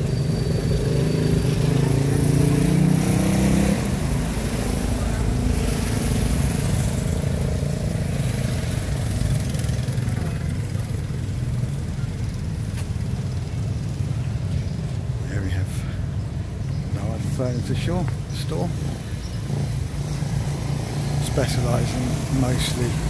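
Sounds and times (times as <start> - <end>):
motorcycle passing by: 0.0 - 14.5, 18.4 - 23.0
street traffic rumble: 0.0 - 23.0.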